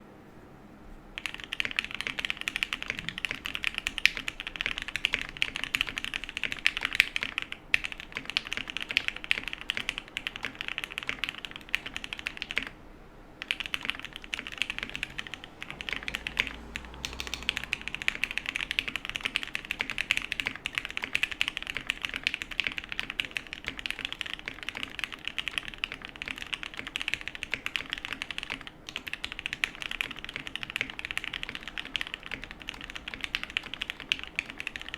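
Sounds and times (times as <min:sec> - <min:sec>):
mechanical keyboard typing: 0:01.2 - 0:12.8, 0:13.4 - 0:34.9.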